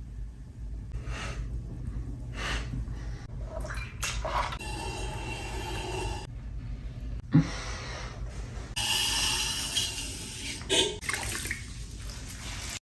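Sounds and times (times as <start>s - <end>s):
pottery wheel humming: 0.0s - 11.0s.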